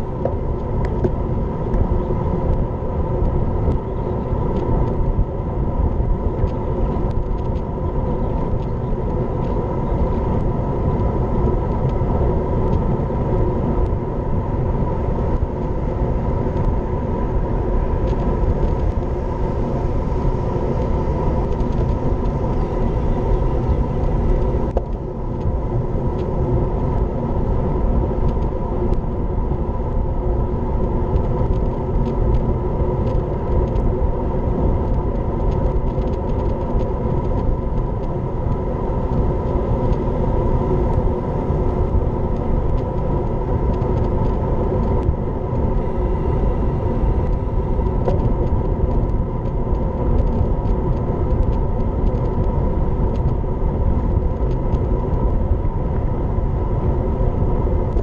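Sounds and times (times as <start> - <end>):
constant hum: 0.0 - 58.0
wind rushing over camera: 0.0 - 58.0.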